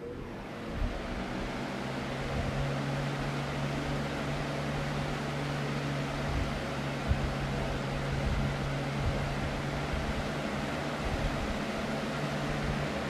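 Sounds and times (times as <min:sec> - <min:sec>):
box fan running: 0:00.0 - 0:13.0.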